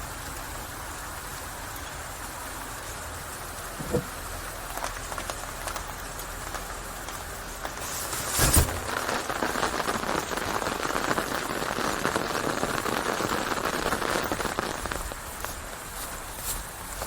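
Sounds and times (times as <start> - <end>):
rain pattering on a surface: 0.0 - 17.0.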